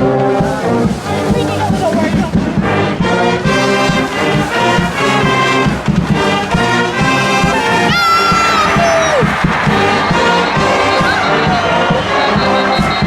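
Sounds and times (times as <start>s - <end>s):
brass section playing: 0.0s - 13.0s
steady drum beat: 0.0s - 13.0s.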